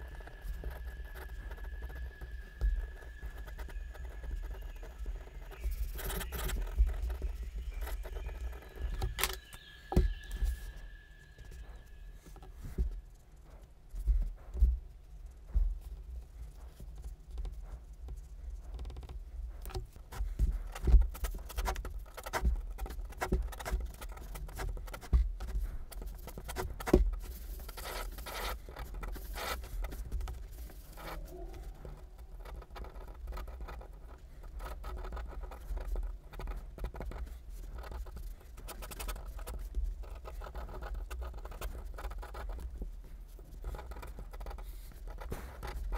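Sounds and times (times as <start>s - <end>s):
pen scratching on paper: 0.0s - 10.2s, 15.4s - 45.9s.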